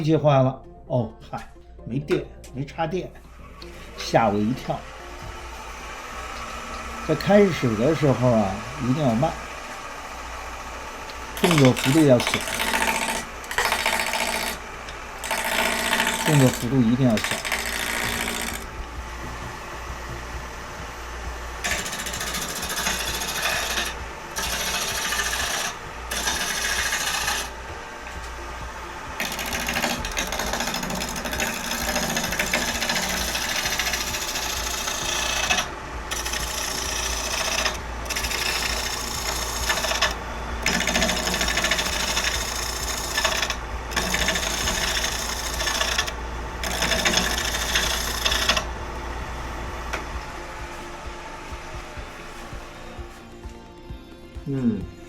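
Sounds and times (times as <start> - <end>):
lathe humming: 3.1 - 54.6
gouge scraping spinning wood: 3.4 - 53.3.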